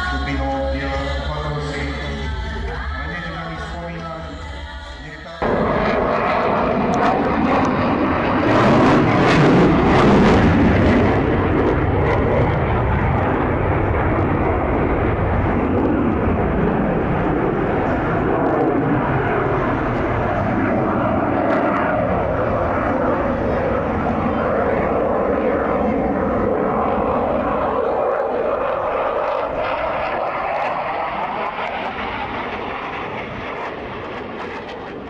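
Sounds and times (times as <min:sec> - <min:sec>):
aircraft engine drone: 0:00.0 - 0:35.0.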